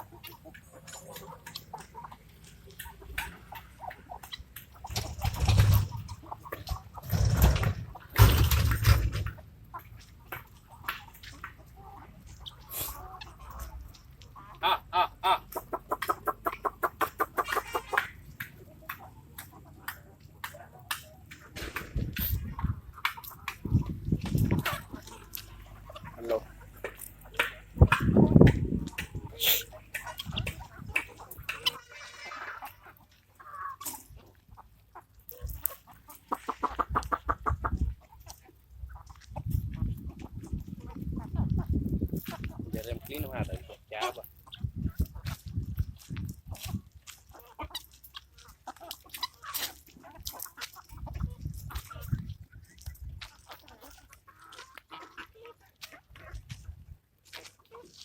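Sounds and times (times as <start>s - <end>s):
chicken clucking: 0.0s - 58.0s.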